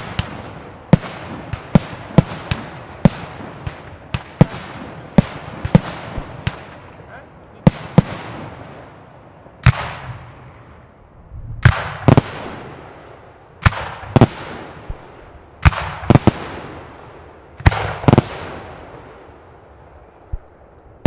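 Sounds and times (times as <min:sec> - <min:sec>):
fireworks banging with echo: 0:00.0 - 0:09.0, 0:09.6 - 0:10.9, 0:11.6 - 0:19.4.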